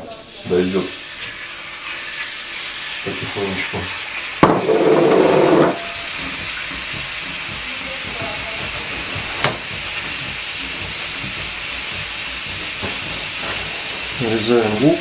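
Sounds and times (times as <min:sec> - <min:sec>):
meat sizzling in frying pan: 0:00.0 - 0:15.0.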